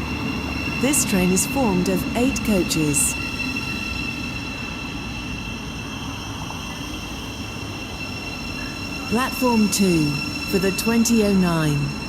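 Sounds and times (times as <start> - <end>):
high-pitched whine: 0.0 - 12.0
train low rumble: 0.0 - 12.0.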